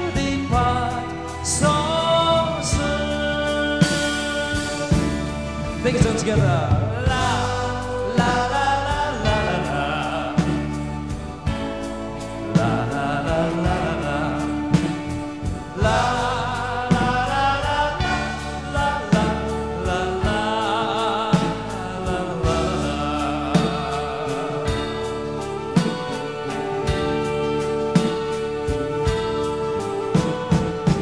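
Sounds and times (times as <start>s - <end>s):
band playing: 0.0s - 31.0s
man singing with vibrato: 0.0s - 31.0s.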